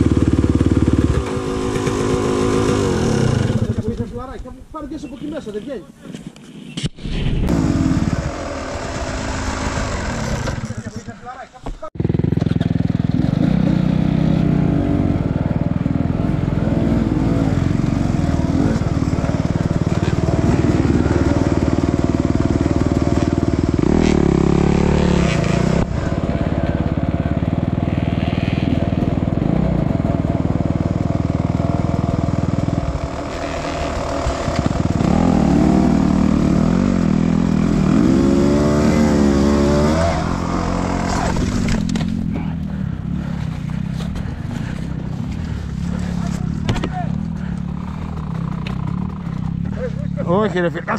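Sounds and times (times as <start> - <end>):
dirt bike engine revving: 0.0 - 4.0, 7.5 - 11.1, 12.0 - 50.9.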